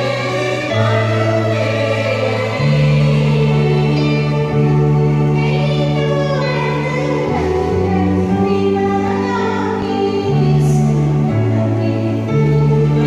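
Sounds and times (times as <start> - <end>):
choir singing: 0.0 - 13.0
low sustained accompaniment notes: 0.0 - 13.0.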